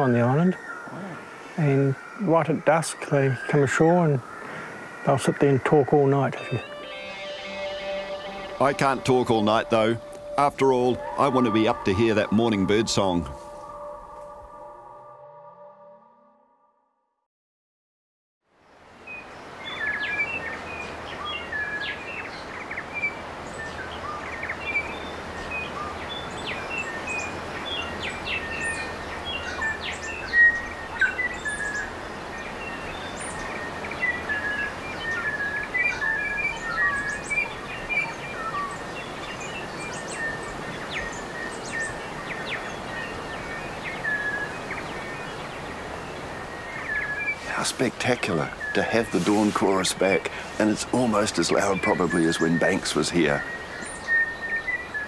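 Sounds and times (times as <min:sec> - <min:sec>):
birds chirping and trilling: 0:00.0 - 0:16.5, 0:18.6 - 0:55.0.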